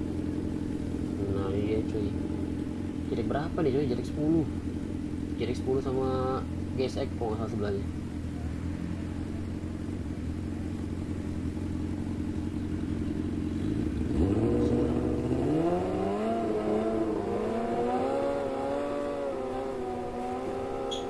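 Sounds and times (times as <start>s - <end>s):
motorcycle engines accelerating: 0.0s - 21.0s.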